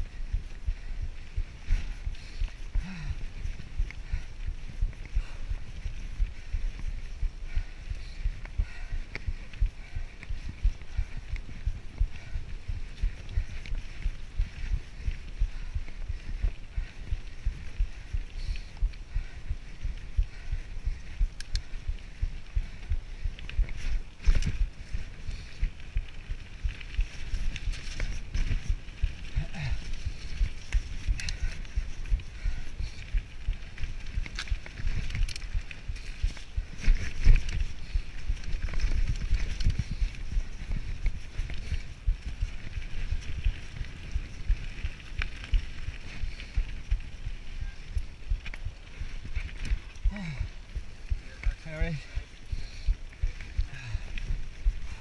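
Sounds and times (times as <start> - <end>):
bike tyres rumbling over trail: 0.0 - 55.0
bike rattling: 0.1 - 55.0.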